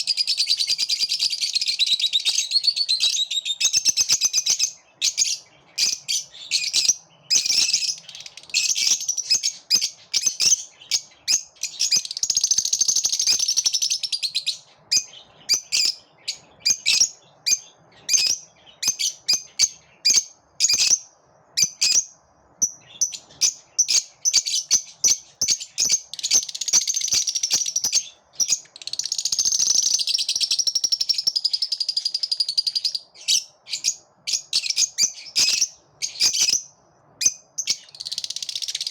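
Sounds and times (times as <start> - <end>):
lovebirds chirping and chattering: 0.0 - 38.9.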